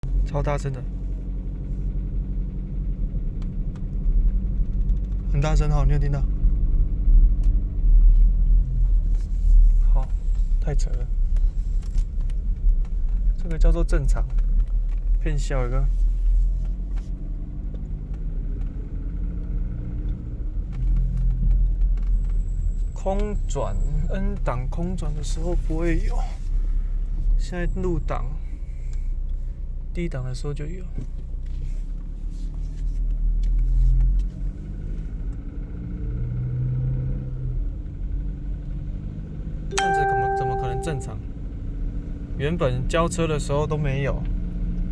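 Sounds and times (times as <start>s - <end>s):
car engine deep rumble: 0.0s - 44.9s.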